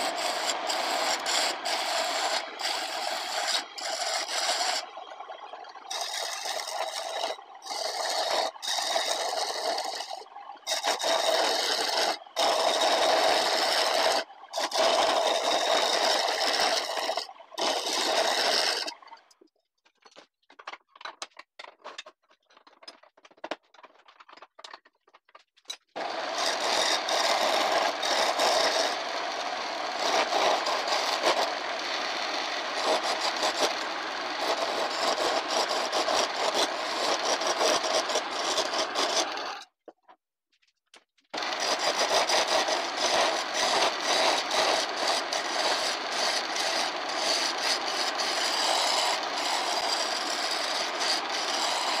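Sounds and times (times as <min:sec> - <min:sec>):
file scraping chisel edge: 0:00.0 - 0:04.9, 0:05.9 - 0:19.0, 0:26.0 - 0:39.7, 0:41.4 - 0:52.0.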